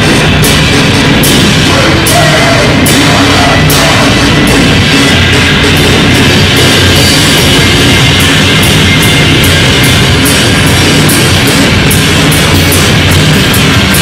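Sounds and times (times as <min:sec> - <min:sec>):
experimental noise music: 0:00.0 - 0:14.0
held bass tones: 0:00.0 - 0:14.0
sharp high hits: 0:00.0 - 0:14.0.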